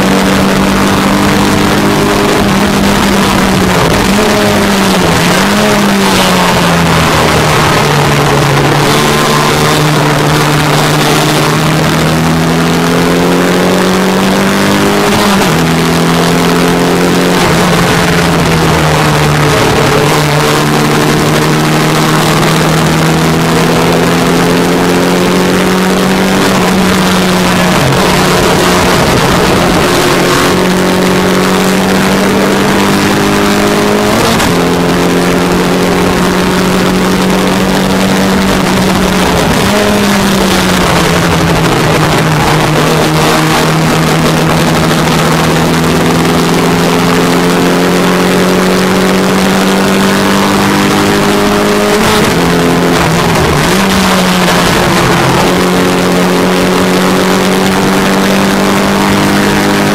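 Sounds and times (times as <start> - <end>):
race car engine at high revs: 0.0 - 59.9
wind noise: 0.0 - 59.9.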